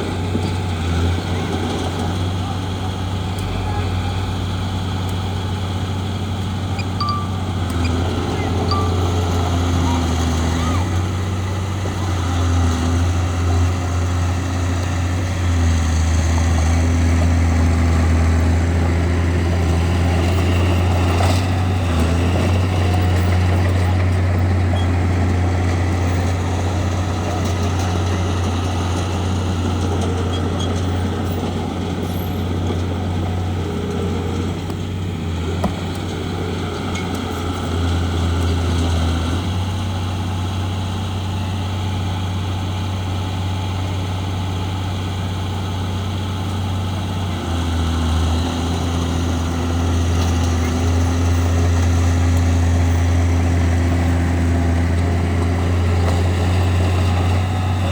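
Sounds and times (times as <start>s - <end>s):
bulldozer engine droning: 0.0s - 57.9s.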